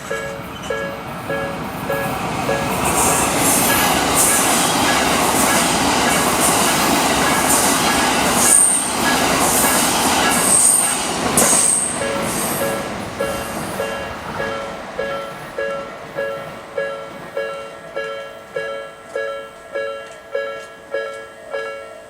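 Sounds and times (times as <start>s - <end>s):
crossing warning bell: 0.0s - 22.0s
train wheels rolling on rails: 0.0s - 22.0s.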